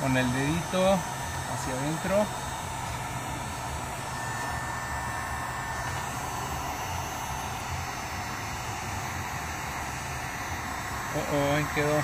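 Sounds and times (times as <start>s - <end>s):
heat gun running: 0.0s - 12.0s.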